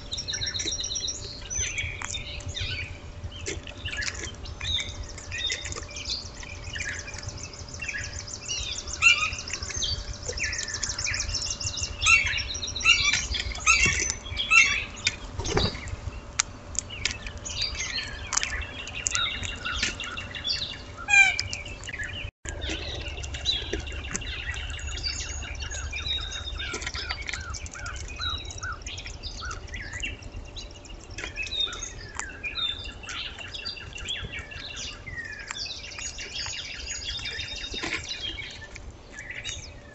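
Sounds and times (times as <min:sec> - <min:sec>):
faint steady hum: 0:00.0 - 0:39.9
small birds chirping: 0:00.0 - 0:39.9.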